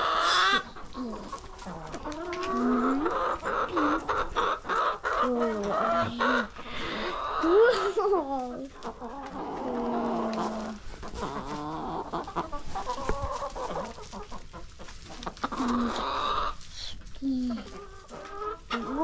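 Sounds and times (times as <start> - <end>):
hens clucking and calling: 0.0 - 19.0.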